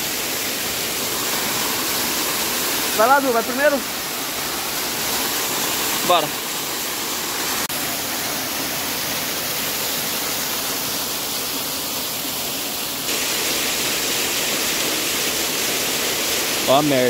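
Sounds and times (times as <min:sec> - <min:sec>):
waterfall rushing over rock: 0:00.0 - 0:17.0.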